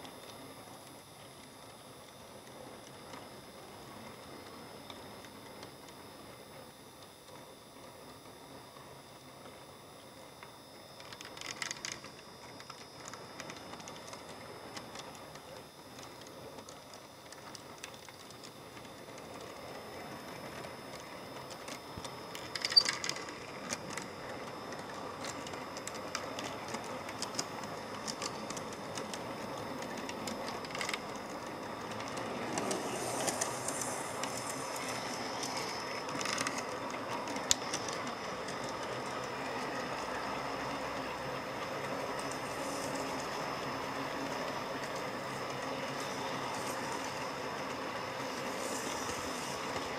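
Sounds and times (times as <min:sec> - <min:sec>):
model train wheels rumbling: 0:00.0 - 0:49.9.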